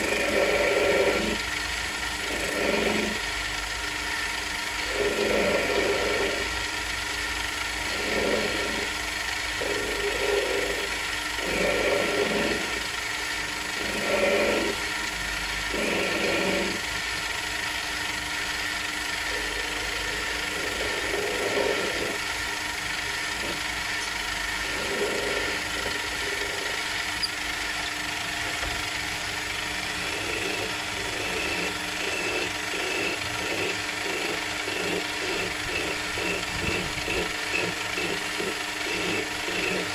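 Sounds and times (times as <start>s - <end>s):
cutting tool scraping metal: 0.0s - 3.3s, 7.2s - 13.0s, 13.6s - 17.2s, 19.2s - 22.5s, 23.2s - 39.9s
hand file rasping: 0.0s - 3.3s, 4.1s - 6.6s, 7.2s - 13.0s, 13.6s - 15.1s, 15.7s - 17.2s, 19.2s - 28.1s, 29.2s - 39.9s
metal lathe motor humming: 0.0s - 39.9s.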